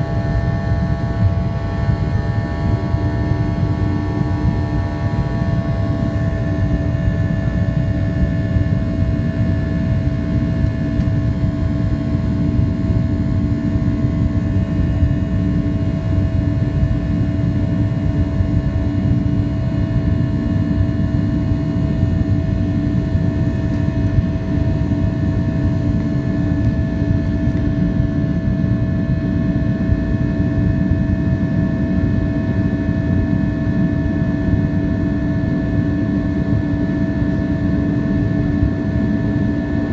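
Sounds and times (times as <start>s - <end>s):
constant whining tones: 0.0s - 39.9s
jet engine cabin rumble: 0.0s - 39.9s.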